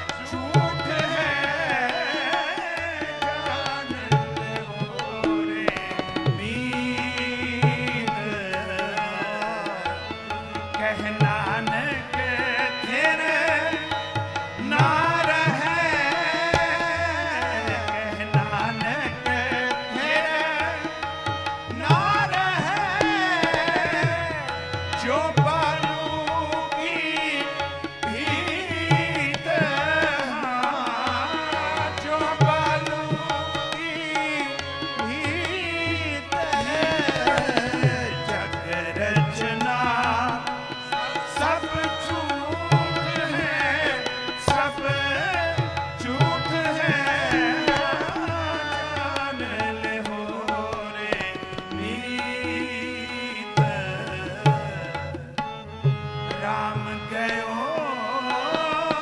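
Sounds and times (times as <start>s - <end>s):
tabla strokes: 0.0s - 57.4s
harmonium melody: 0.0s - 59.0s.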